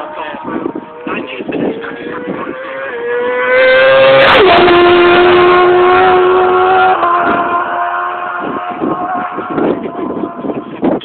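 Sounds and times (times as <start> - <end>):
racing motorcycle passing: 0.0 - 11.0.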